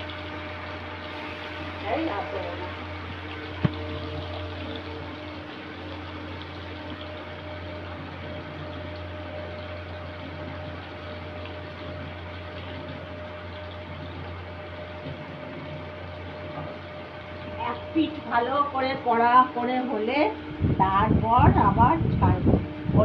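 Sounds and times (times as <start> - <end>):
fish frying in hot oil: 0.0 - 21.4
constant low hum: 0.0 - 23.0.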